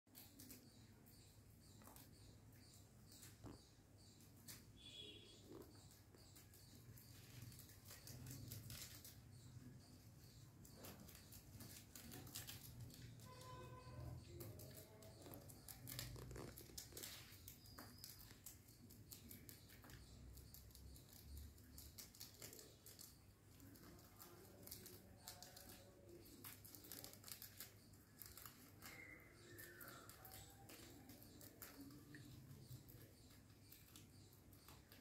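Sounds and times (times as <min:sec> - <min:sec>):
rabbits chewing leaves: 0:00.1 - 0:35.0.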